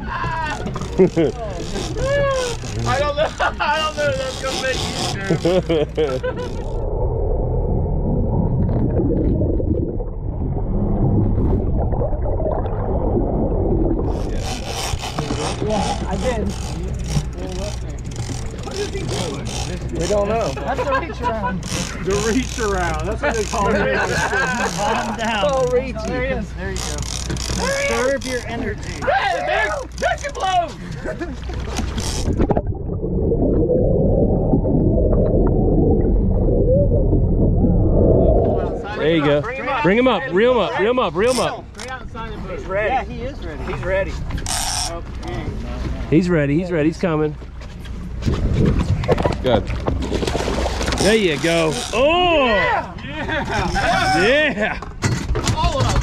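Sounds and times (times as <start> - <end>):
underwater rumble and gurgling: 0.0 - 29.0, 30.8 - 40.4, 45.0 - 54.2.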